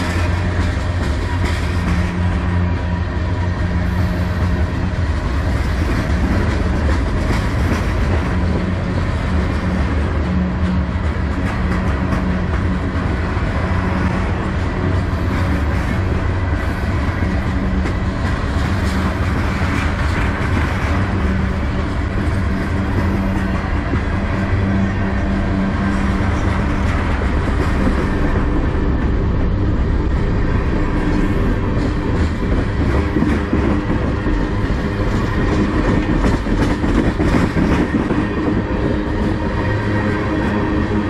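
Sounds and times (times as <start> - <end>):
freight train wheels rumbling on rails: 0.0 - 41.0.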